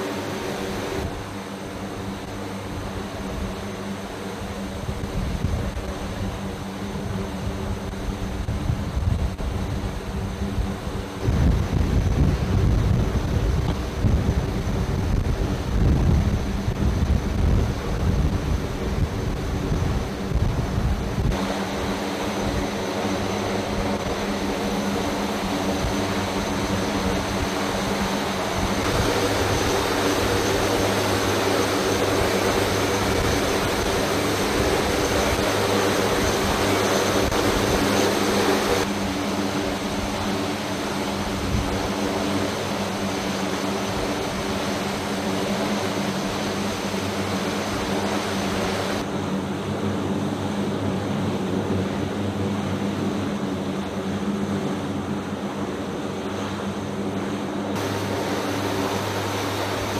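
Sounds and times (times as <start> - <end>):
high engine whine: 0.0 - 59.9
turboprop engines droning: 0.0 - 59.9.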